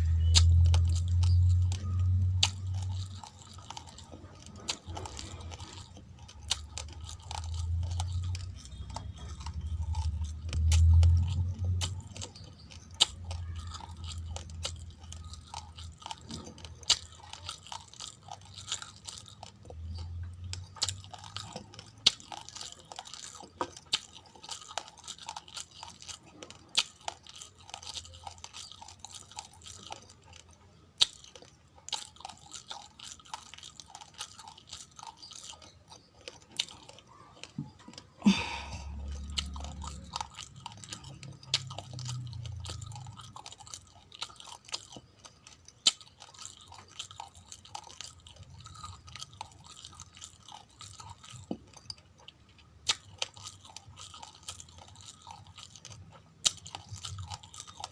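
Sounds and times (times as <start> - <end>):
crunching of uncooked rice: 0.0 - 57.9
muffled chewing: 0.0 - 57.9.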